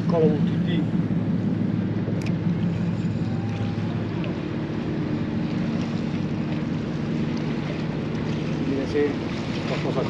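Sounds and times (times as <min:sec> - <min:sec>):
ship engine hum: 0:00.0 - 0:10.0.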